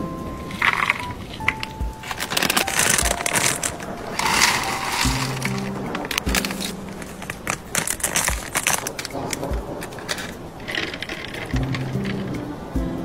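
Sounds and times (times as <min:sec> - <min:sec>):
music with deep bass and beat: 0:00.0 - 0:13.0
plastic packaging crinkling: 0:00.4 - 0:12.4.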